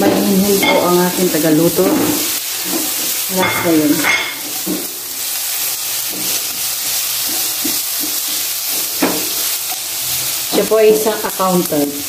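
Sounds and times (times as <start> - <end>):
spatula stirring and scraping: 0.0 - 10.6
onion and garlic sizzling in oil: 0.0 - 12.0.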